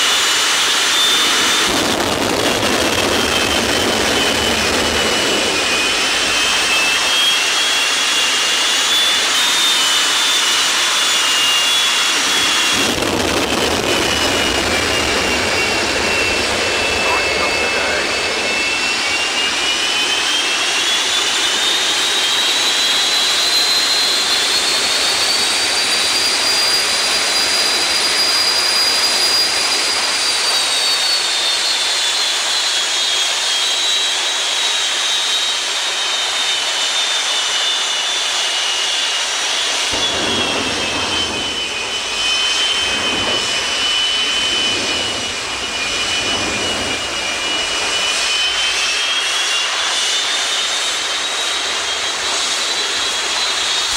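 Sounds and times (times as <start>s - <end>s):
jet engine running loud: 0.0s - 53.9s.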